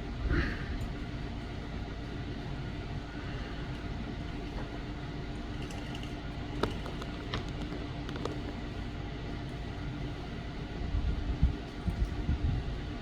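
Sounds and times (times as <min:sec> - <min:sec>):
room noise hum and hiss: 0:00.0 - 0:13.0.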